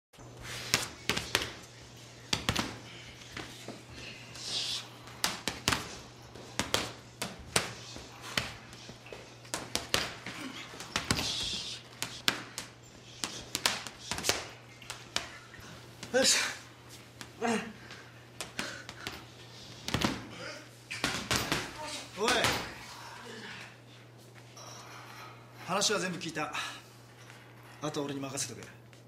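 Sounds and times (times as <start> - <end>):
steady low hum: 0.2 - 29.0.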